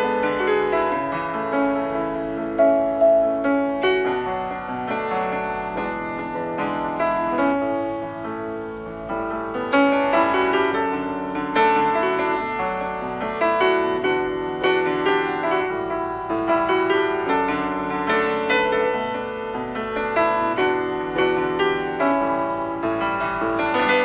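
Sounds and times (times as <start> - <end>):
slow gentle piano music: 0.0 - 24.0.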